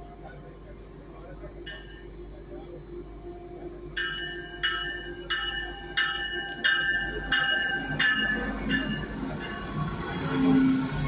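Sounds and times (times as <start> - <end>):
train bell ringing: 0.0 - 11.0
train low rumble: 0.0 - 11.0.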